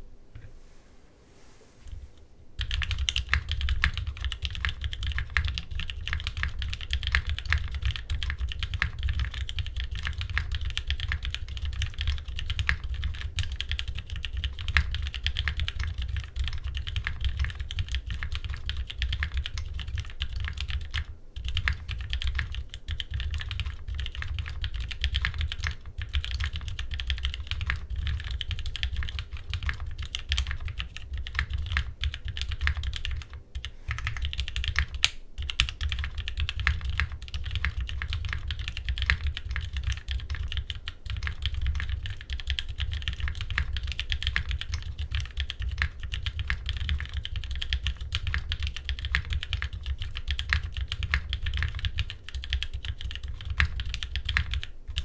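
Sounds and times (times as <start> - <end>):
mechanical keyboard typing: 2.6 - 55.0.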